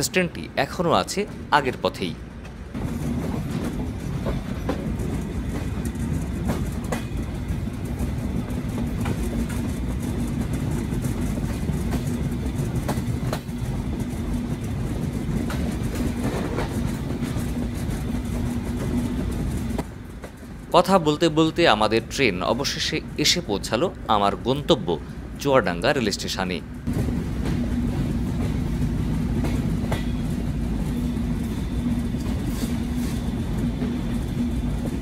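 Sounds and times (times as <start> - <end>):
train rumbling on rails: 0.0 - 35.0
wheels clicking over rail joints: 0.7 - 23.9, 26.8 - 35.0.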